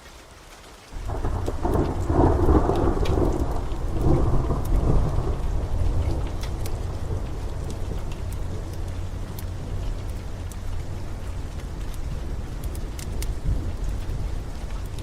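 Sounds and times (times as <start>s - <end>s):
steady rain: 0.0s - 15.0s
wood fire crackling: 0.0s - 15.0s
rolling thunder: 1.0s - 15.0s.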